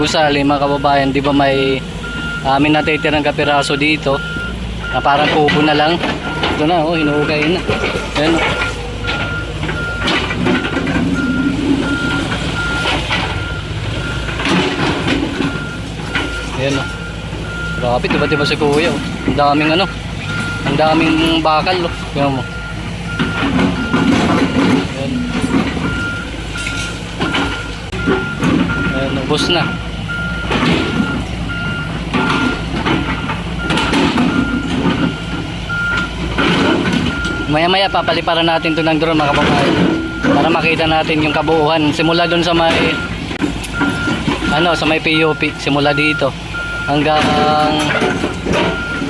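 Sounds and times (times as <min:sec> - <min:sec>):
debris clanking: 0:00.0 - 0:49.0
diesel engine running: 0:00.0 - 0:49.0
excavator warning alarm beeps: 0:00.0 - 0:49.0
digging knocks and scrapes: 0:02.5 - 0:22.4, 0:23.1 - 0:29.8, 0:30.4 - 0:46.3.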